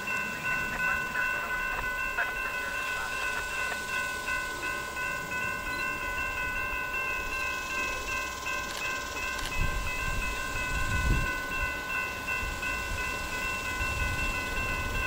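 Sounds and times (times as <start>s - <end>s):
crossing warning bell ringing: 0.0s - 15.0s
train passing: 0.0s - 15.0s.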